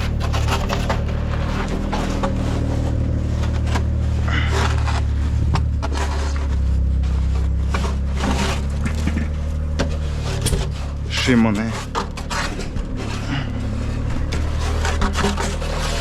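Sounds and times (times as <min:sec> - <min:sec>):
construction knocks and scraping: 0:00.0 - 0:16.0
machine engine droning: 0:00.0 - 0:16.0.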